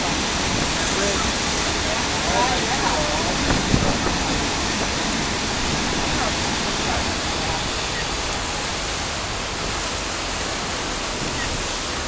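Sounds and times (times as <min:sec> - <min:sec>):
water churning along ferry hull: 0:00.0 - 0:12.0
wind on microphone: 0:00.0 - 0:12.0.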